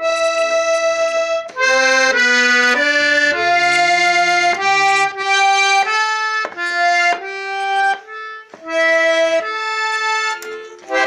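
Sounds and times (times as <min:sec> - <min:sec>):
button accordion folk melody: 0:00.0 - 0:11.0.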